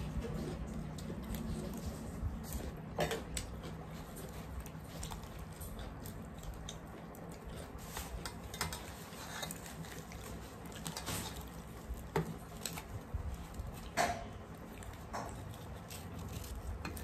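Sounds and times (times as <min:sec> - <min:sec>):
chewing: 0:00.0 - 0:17.0
fried bread tearing: 0:00.0 - 0:17.0.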